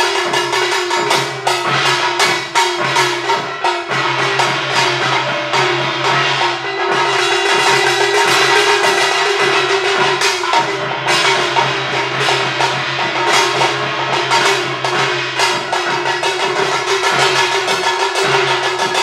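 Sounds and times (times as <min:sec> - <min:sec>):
metal gongs and cymbals struck: 0:00.0 - 0:19.0
ringing hum of gongs: 0:00.0 - 0:19.0.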